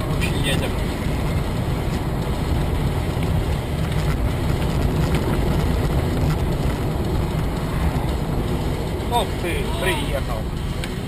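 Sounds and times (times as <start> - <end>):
moving vehicle rumble: 0.0 - 11.0.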